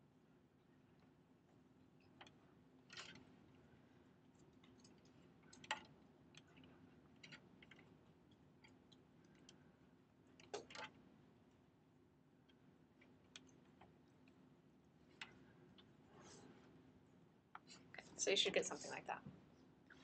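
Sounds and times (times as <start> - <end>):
faint low hum: 0.0 - 20.0
faint clicks and taps: 0.9 - 11.7, 12.4 - 18.1.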